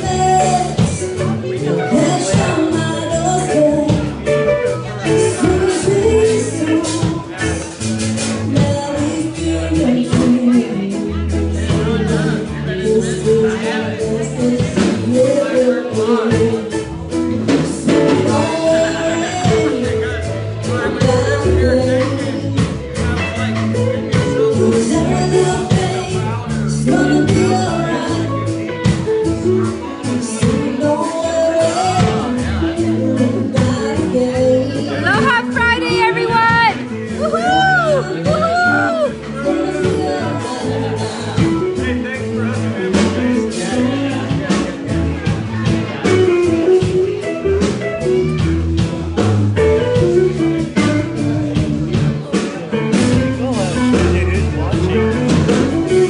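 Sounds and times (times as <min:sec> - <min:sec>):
live band playing: 0:00.0 - 0:56.0
person singing: 0:00.0 - 0:56.0.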